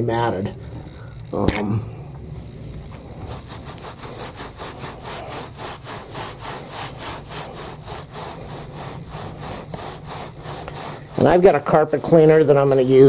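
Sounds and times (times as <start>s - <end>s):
rug being scrubbed: 2.4s - 13.0s.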